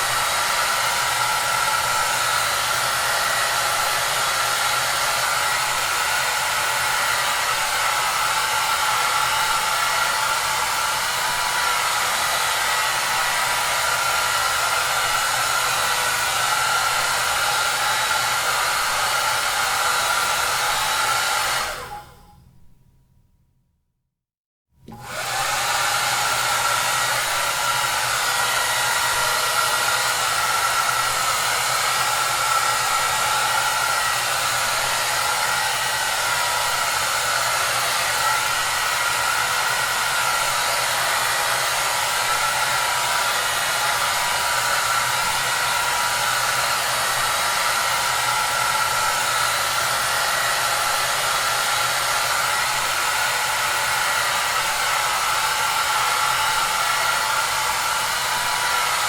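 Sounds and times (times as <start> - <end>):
hair dryer blowing: 0.0 - 22.3, 24.8 - 59.0.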